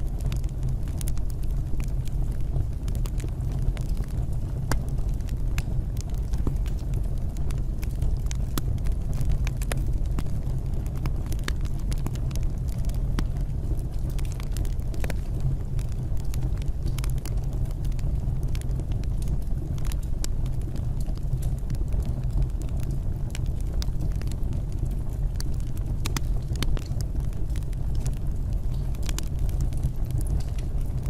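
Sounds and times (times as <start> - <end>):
fire crackling: 0.0 - 31.0
fire pops and snaps: 0.0 - 31.0
low rumble of fire: 0.0 - 31.0.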